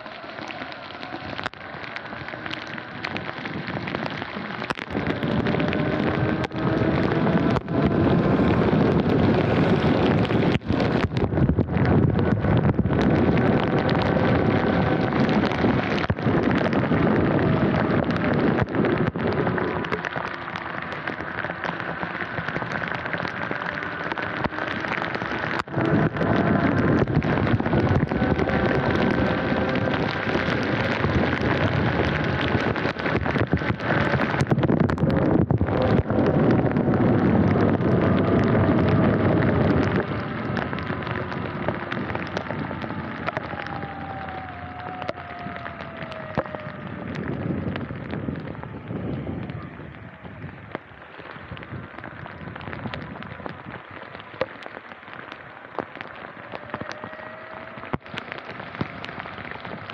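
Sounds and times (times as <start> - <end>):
heavy rain and tyre spray: 0.0 - 59.9
raindrops ticking on camera: 0.0 - 59.9.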